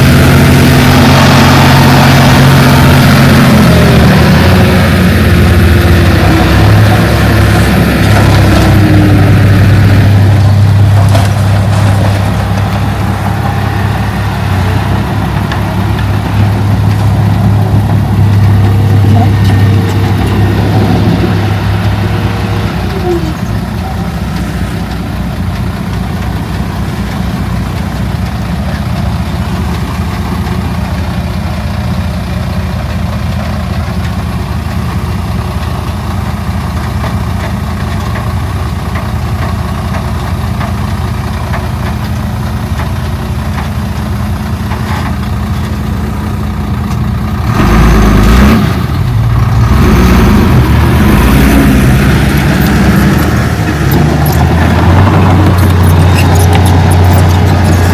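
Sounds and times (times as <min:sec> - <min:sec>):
heavy diesel machinery droning: 0:00.0 - 0:57.9.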